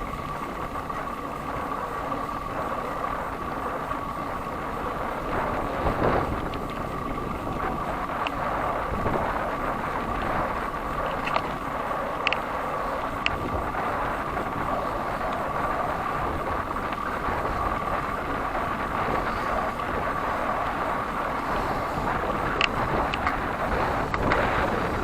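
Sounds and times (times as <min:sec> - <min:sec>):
road noise: 0:00.0 - 0:25.0
wind noise on microphone: 0:00.0 - 0:25.0.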